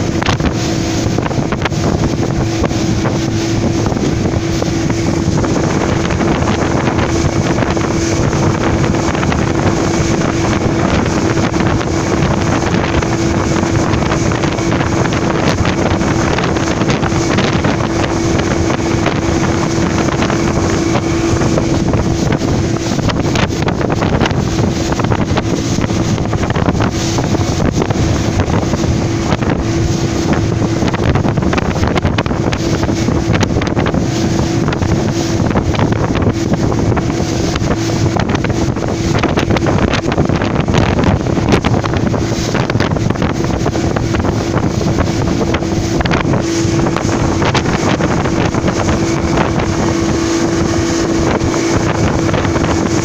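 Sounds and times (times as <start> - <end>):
speedboat engine droning: 0.0 - 53.0
water rushing along hull: 0.0 - 53.0
wind buffeting microphone: 0.0 - 53.0.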